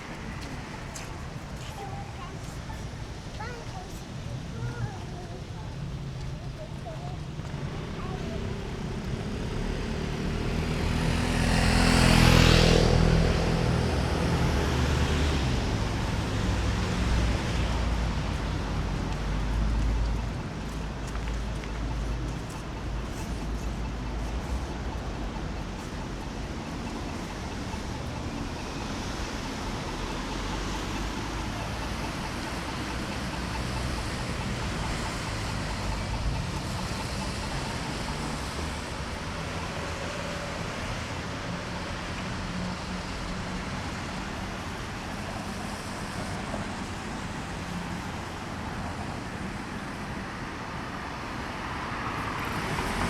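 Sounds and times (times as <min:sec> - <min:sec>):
traffic on wet street: 0:00.0 - 0:53.0.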